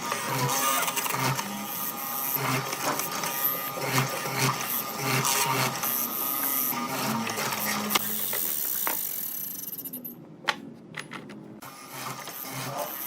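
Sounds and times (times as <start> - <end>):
power tool motor running: 0.0 - 9.4, 11.6 - 13.0.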